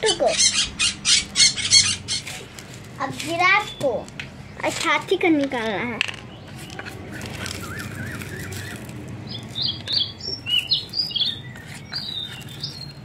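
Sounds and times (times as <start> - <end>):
birds chirping: 0.0 - 13.0
low background hum: 0.0 - 13.0.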